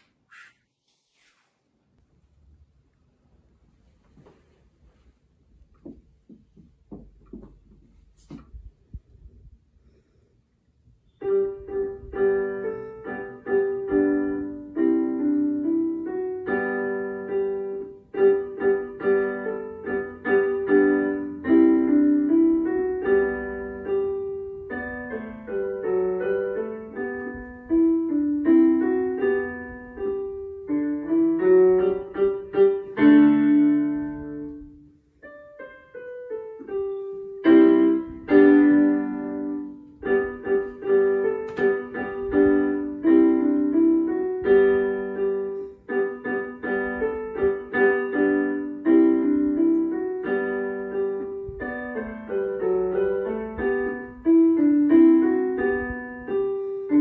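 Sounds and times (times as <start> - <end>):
digital piano melody: 10.8 - 57.0.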